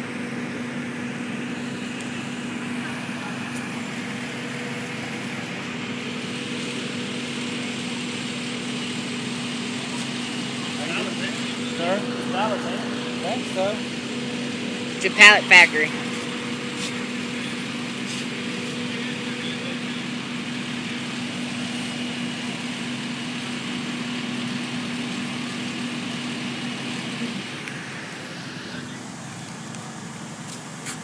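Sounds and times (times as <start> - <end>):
fire engine running: 0.0 - 31.0
rushing road noise: 0.0 - 31.0.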